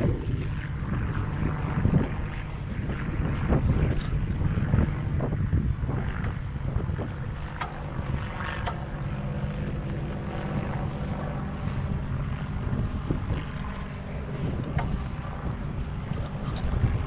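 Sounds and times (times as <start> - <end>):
engine drone: 0.0 - 17.0
wind buffeting microphone: 0.0 - 17.0.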